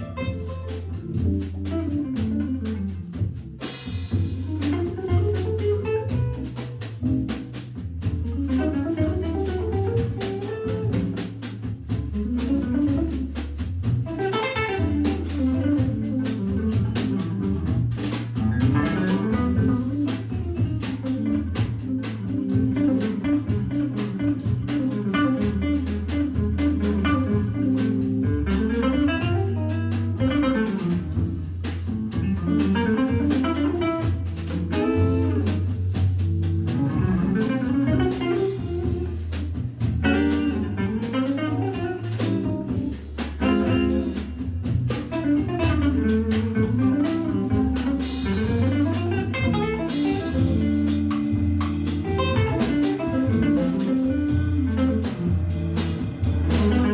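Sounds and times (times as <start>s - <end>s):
electric guitar melody: 0.0s - 13.4s, 14.0s - 17.8s, 18.4s - 56.9s
drum kit cymbal strokes: 0.0s - 56.9s
organ bass notes: 0.0s - 56.9s.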